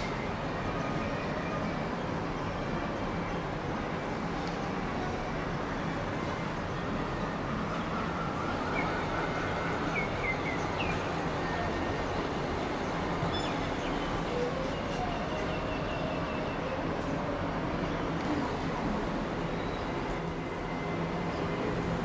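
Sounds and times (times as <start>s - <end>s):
distant city traffic: 0.0s - 22.0s.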